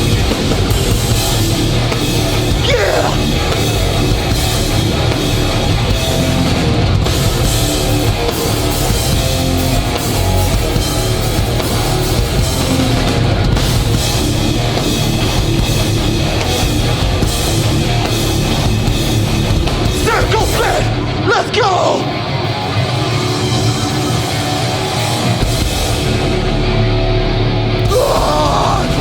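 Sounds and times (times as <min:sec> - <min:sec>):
pounding drum kit: 0:00.0 - 0:26.7, 0:27.8 - 0:29.0
bass guitar: 0:00.0 - 0:29.0
distorted electric guitars: 0:00.0 - 0:29.0.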